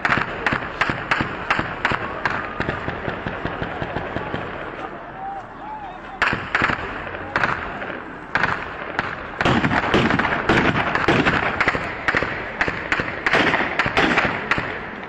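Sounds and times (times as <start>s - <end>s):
gunshots with echo: 0.0s - 4.9s, 6.2s - 15.0s.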